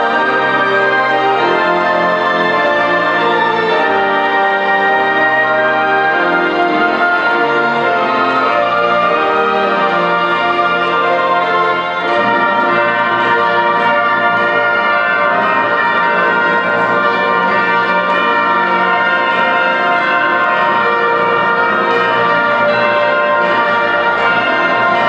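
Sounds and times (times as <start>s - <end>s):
brass playing sustained chords: 0.0s - 25.0s
strings: 0.0s - 25.0s.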